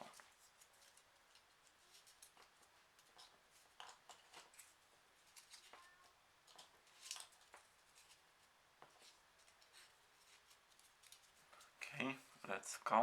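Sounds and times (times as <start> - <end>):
paper rustling and clicking: 0.0 - 11.7.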